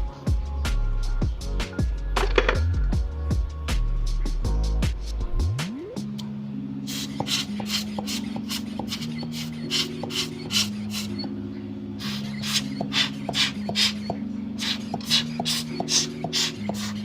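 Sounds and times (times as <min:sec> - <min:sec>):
hi-hat beat: 0:00.0 - 0:06.2, 0:06.9 - 0:11.3, 0:12.0 - 0:17.0
held music chords: 0:00.0 - 0:17.0.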